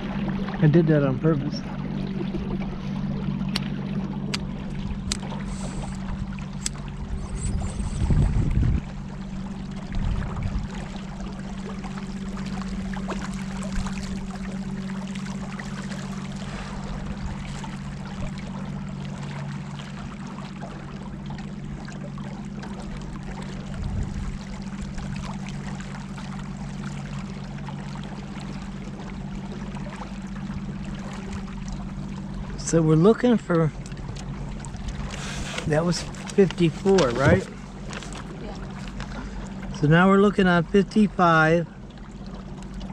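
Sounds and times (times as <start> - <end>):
boat motor running: 0.0 - 42.9
low rumbles: 0.0 - 42.9
water splashing along hull: 0.0 - 42.9.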